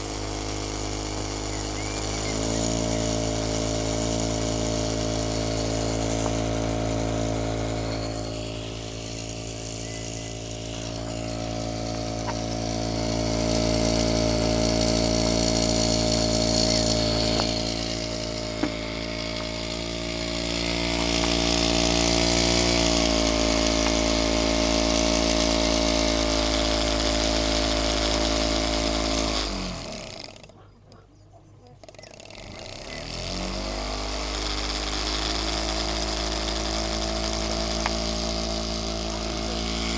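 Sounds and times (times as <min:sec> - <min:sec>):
engine mechanical hum: 0:00.0 - 0:39.9.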